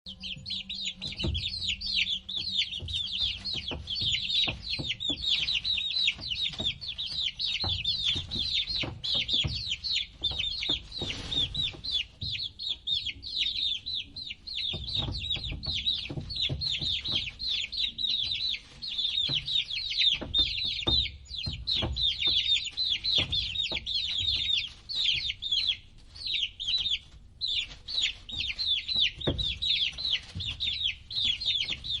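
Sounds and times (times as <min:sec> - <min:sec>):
chicks peeping: 0:00.1 - 0:32.0.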